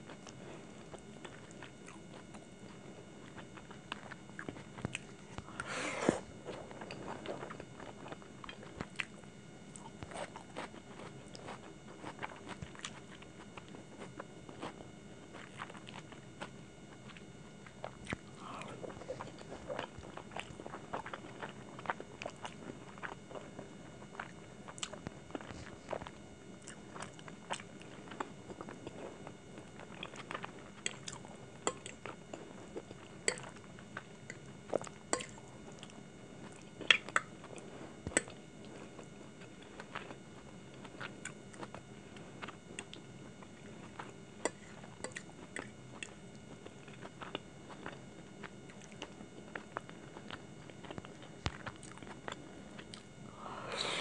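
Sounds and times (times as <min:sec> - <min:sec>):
chewing and wet mouth sounds: 0:00.0 - 0:05.7, 0:06.4 - 0:53.2.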